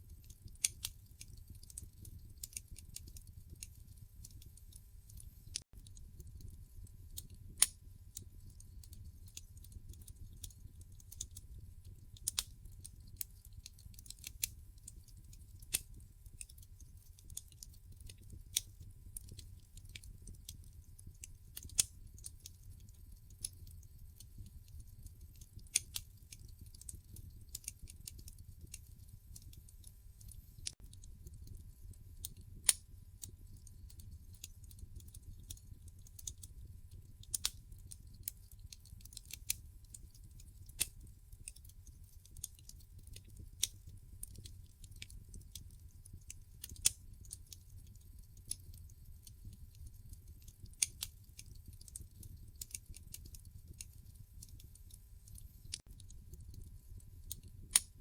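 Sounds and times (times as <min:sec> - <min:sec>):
logs crackling and popping: 0:00.1 - 0:58.0
low rumble of flames: 0:00.1 - 0:58.0.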